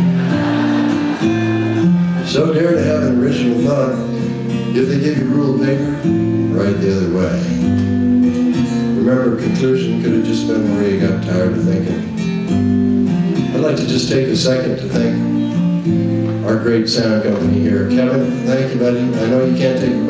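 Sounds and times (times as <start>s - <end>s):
acoustic guitar strumming: 0.0s - 20.0s
lap steel guitar melody: 0.0s - 20.0s.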